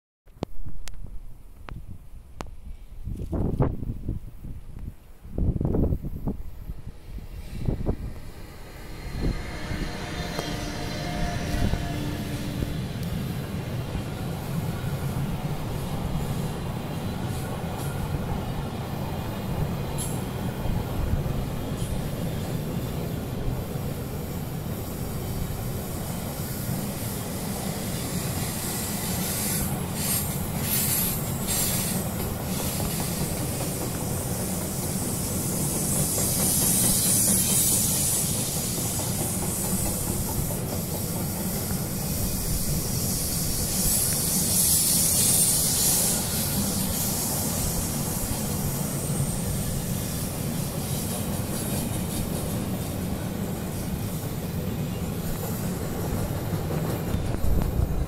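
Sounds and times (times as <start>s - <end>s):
high hiss: 5.8s - 58.0s
freight wagons rumbling on rails: 6.8s - 58.0s.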